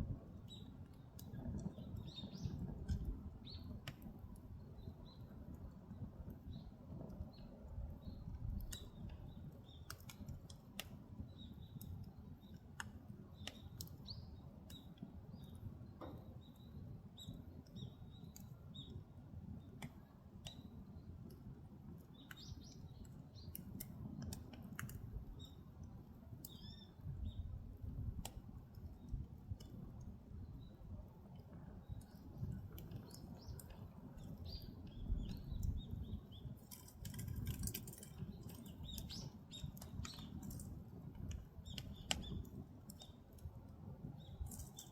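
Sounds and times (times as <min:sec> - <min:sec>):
firewood crackling and popping: 0:00.0 - 0:44.9
low rumble of flames: 0:00.0 - 0:44.9.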